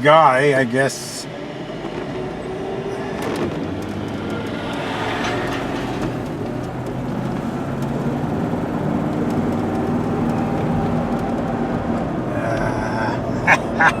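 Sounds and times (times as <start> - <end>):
car engine hum: 1.3 - 13.9
tyre and road noise: 1.4 - 14.0.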